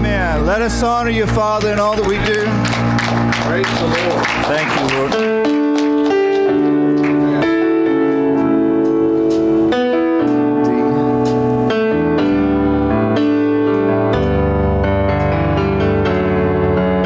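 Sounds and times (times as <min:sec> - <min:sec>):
low bass line: 0:00.0 - 0:05.4, 0:06.8 - 0:17.0
electric keyboard chords: 0:00.0 - 0:17.0.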